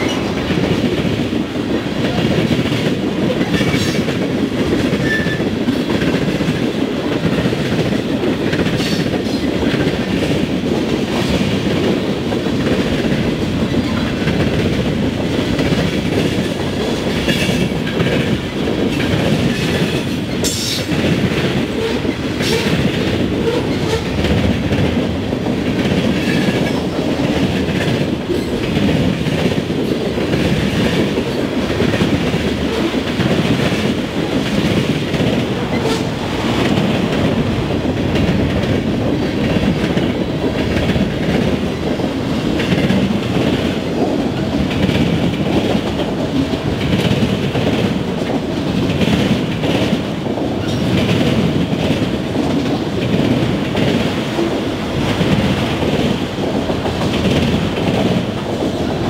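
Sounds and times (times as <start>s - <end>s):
clickety-clack of rail joints: 0.0s - 59.0s
train wheels rumbling on rails: 0.0s - 59.0s.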